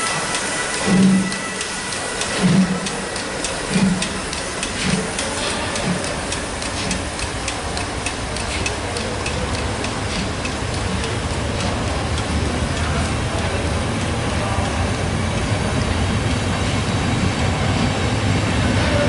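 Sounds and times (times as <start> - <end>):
steam locomotive exhaust chuffs: 0.0 - 19.0
wheels clicking on track: 0.0 - 19.0.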